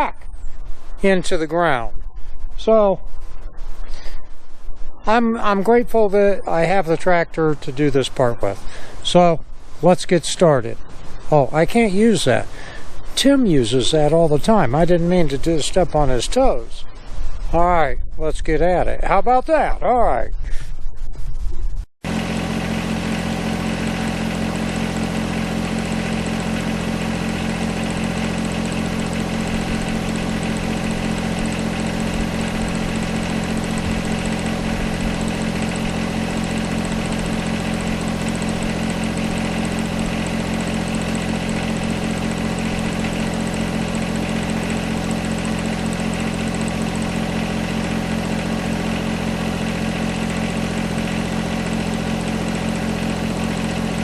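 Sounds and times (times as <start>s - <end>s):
tractor diesel engine running: 0.0s - 1.9s, 4.8s - 16.8s, 22.0s - 54.0s.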